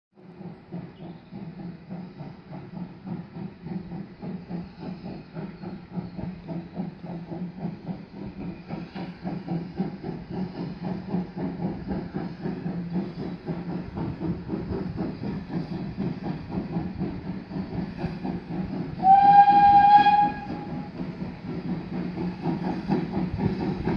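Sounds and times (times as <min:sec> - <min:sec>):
hissing steam: 0:00.2 - 0:23.9
steam locomotive chuffing: 0:00.2 - 0:23.9.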